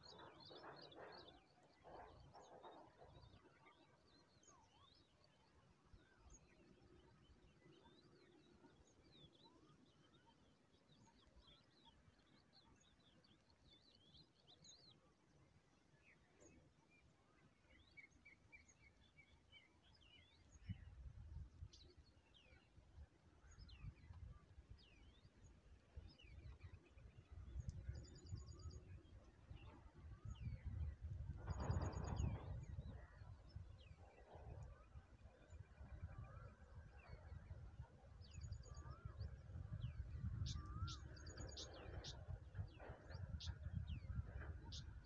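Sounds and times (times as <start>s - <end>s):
songbirds chirping and whistling: 0.0s - 45.0s.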